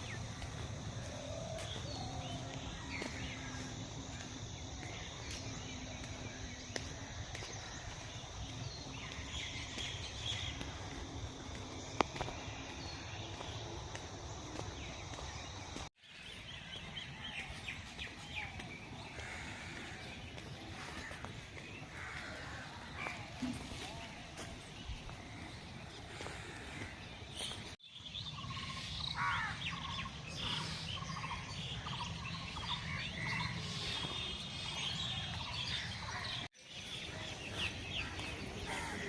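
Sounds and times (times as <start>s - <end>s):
birds chirping: 0.0s - 39.0s
outdoor background hum: 0.0s - 39.0s.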